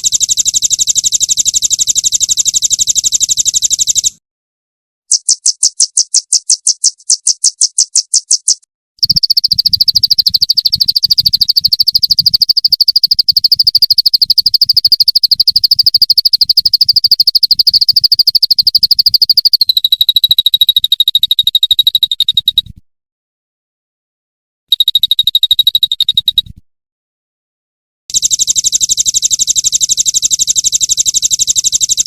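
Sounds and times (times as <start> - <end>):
rapid high-pitched bird trill: 0.0 - 4.2, 5.1 - 22.6, 24.7 - 26.5, 28.1 - 32.0.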